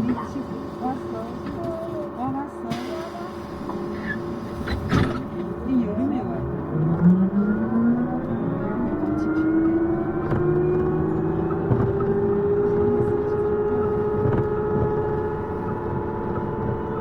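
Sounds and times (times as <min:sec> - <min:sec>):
cabin rumble: 0:00.0 - 0:17.0
bus drive tone rising: 0:02.7 - 0:17.0.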